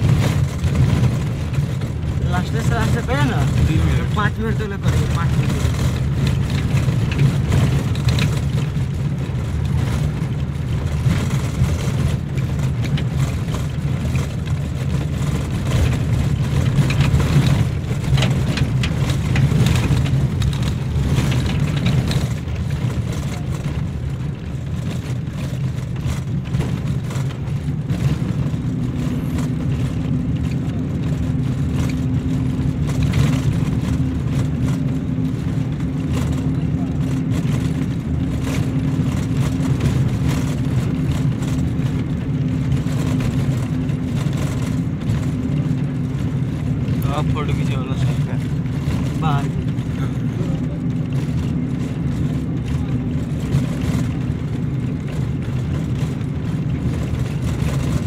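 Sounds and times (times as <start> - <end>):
rattles and knocks: 0.0 - 58.0
steady engine tone: 0.0 - 58.0
vehicle engine and road drone: 0.0 - 58.0.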